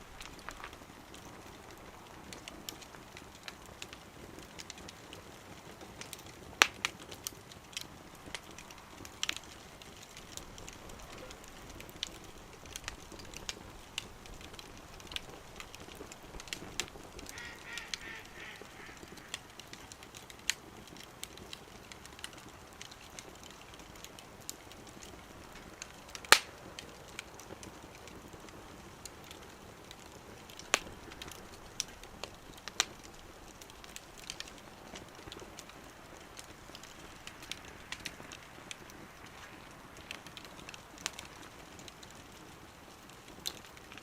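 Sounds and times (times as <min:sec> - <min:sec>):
sharp pops of fire: 0:00.0 - 0:44.0
wood fire crackling: 0:00.0 - 0:44.0.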